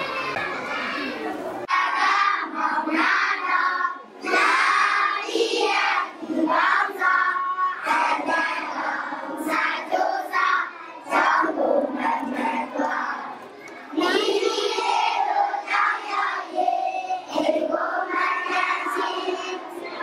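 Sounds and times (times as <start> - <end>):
children singing in unison: 1.6 - 20.0.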